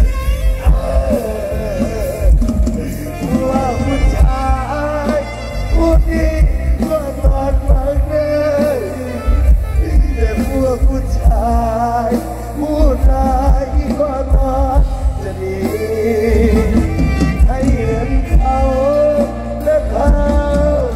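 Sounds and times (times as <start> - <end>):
band music with bass and drums: 0.0 - 20.9
person singing: 0.0 - 20.9.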